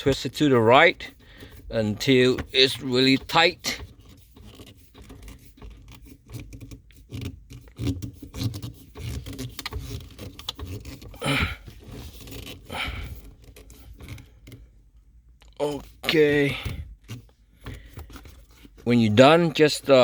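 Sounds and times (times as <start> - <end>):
shift knob rubbing and scraping: 0.0 - 20.0.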